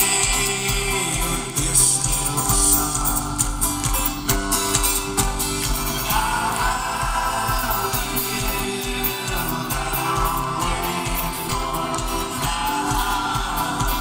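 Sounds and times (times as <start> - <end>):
banjo: 0.0 - 14.0
live folk-rock band through pa: 0.0 - 14.0
person singing: 0.0 - 14.0.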